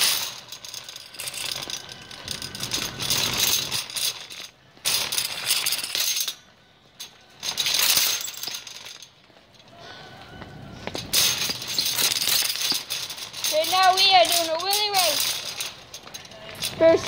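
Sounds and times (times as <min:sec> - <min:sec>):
metal shopping cart rattling: 0:00.0 - 0:06.4, 0:07.0 - 0:09.6, 0:10.9 - 0:17.0.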